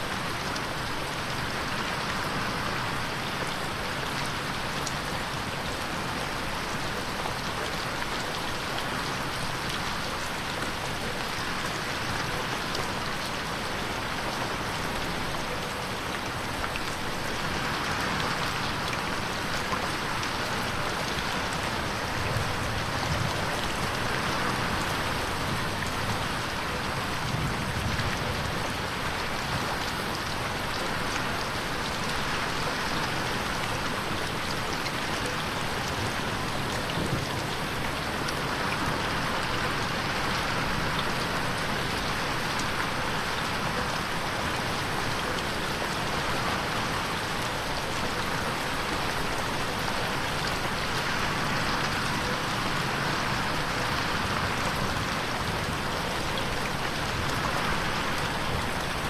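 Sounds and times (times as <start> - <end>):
rain pattering on window: 0.0 - 59.0.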